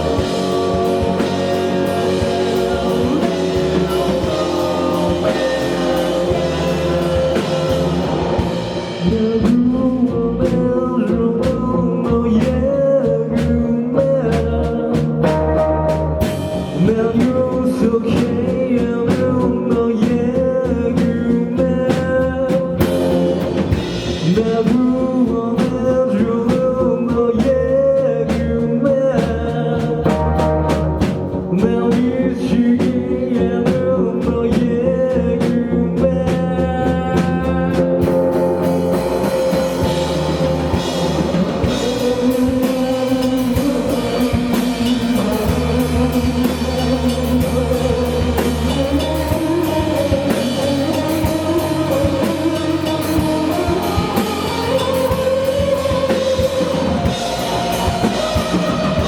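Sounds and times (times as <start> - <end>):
electric guitars: 0.0 - 27.4, 28.0 - 59.0
drum kit: 0.0 - 59.0
person singing: 0.0 - 59.0.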